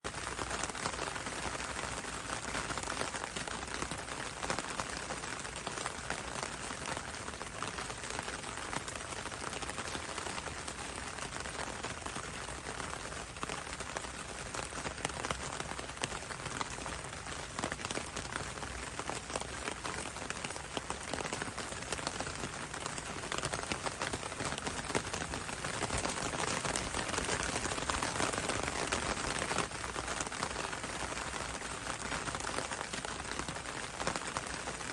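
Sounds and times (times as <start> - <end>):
rain falling on leaves: 0.0 - 34.9.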